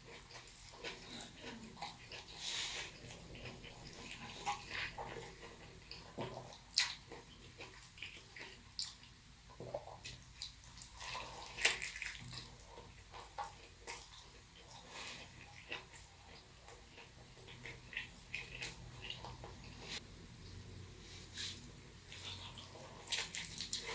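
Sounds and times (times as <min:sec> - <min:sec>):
chewing food: 0:00.0 - 0:20.7, 0:21.4 - 0:23.9.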